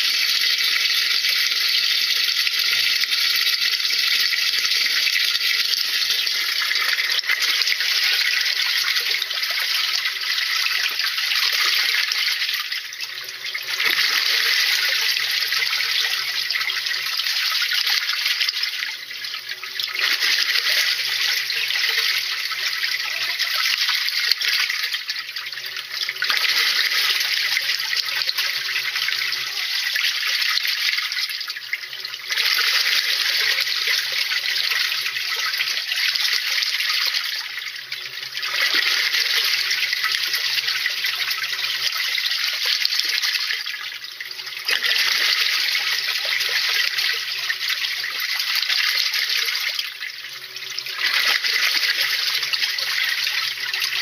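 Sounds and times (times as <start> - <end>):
washing machine water churning: 0.0 - 54.0.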